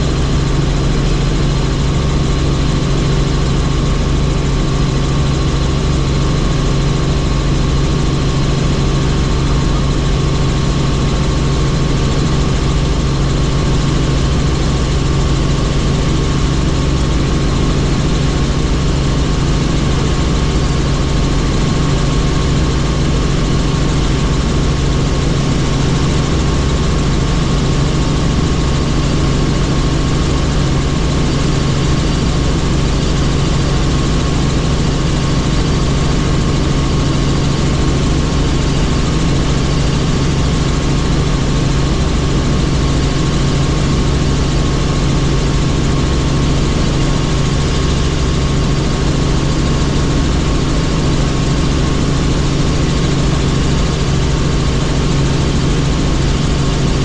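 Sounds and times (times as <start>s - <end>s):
helicopter engine and rotors: 0.0s - 57.0s.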